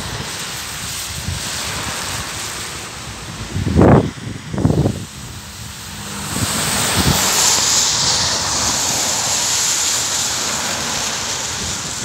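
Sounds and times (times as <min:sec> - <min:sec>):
tyres hissing on wet road: 0:00.0 - 0:12.0
wind buffeting microphone: 0:00.0 - 0:12.0.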